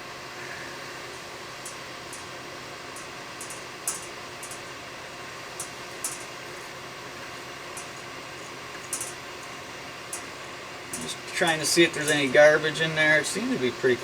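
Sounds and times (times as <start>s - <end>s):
hot-air blower hissing: 0.0s - 14.0s.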